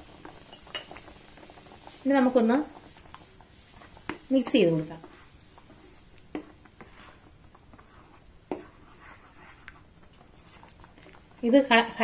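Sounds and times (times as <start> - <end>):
spatula stirring sauce: 0.0 - 12.0.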